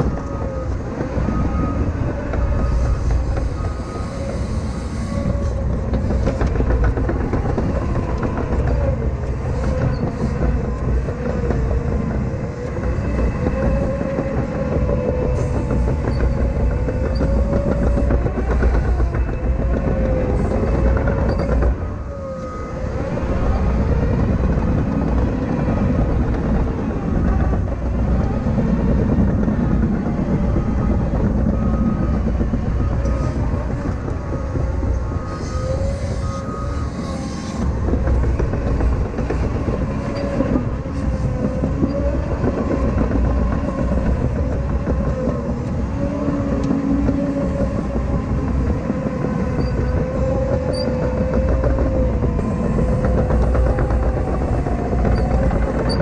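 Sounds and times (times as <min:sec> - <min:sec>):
diesel engine rumble and clatter: 0:00.0 - 0:56.0
wavering whine: 0:00.0 - 0:56.0.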